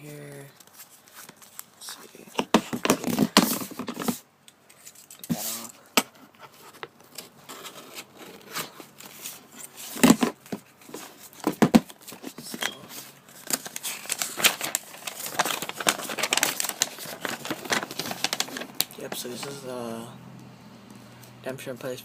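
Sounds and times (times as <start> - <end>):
paper and plastic crinkling: 0.2 - 19.8.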